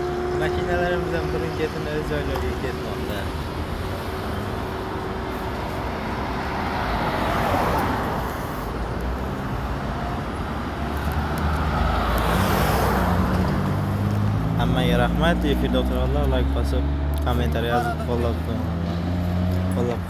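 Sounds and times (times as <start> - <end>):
traffic rushing by: 0.0 - 20.0.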